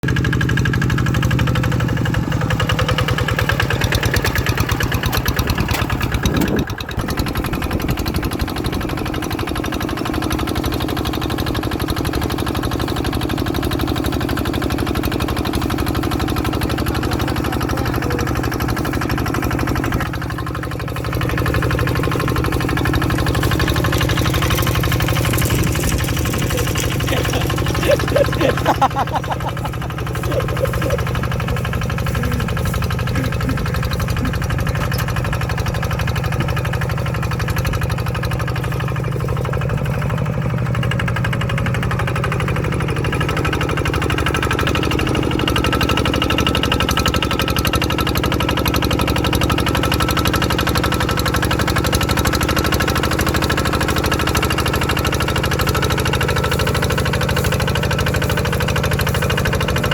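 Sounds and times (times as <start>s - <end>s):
tractor engine chugging: 0.0s - 59.9s.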